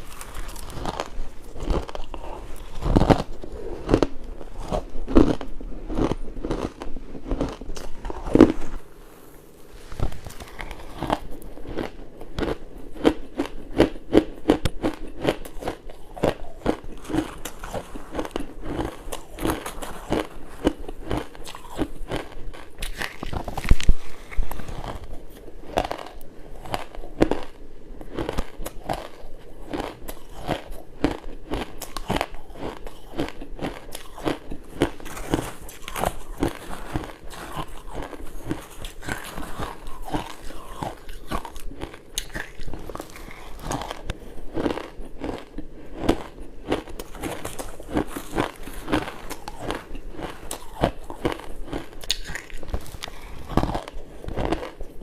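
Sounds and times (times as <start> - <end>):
ice crunching between teeth: 0.0 - 8.9, 9.9 - 27.6, 28.2 - 54.9.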